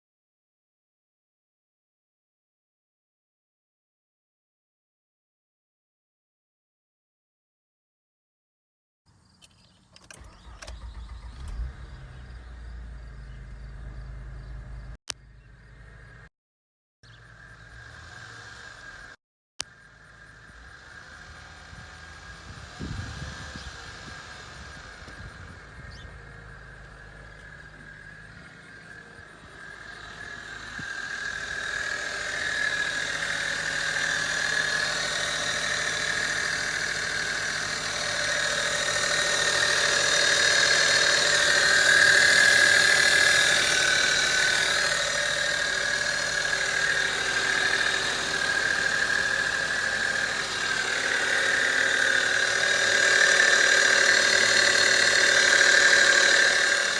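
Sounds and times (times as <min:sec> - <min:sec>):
high-pitched engine whine: 0:09.4 - 0:16.3, 0:17.0 - 0:56.9
car engine running: 0:09.7 - 0:16.3, 0:17.1 - 0:56.9.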